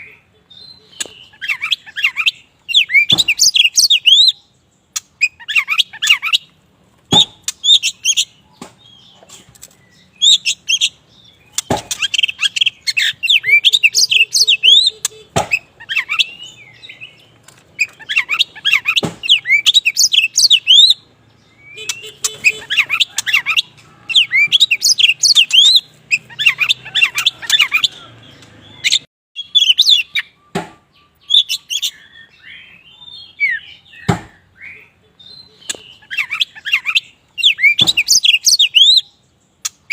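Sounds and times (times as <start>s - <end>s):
songbird whistles and chirps: 0.0s - 39.9s.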